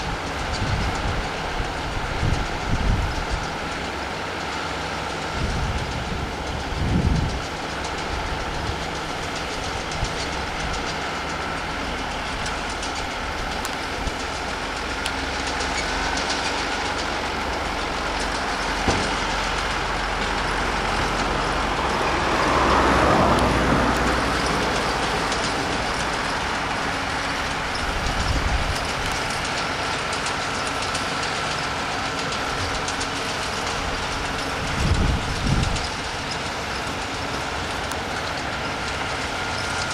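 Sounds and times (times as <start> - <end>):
tractor and baler engines droning: 0.0 - 39.9.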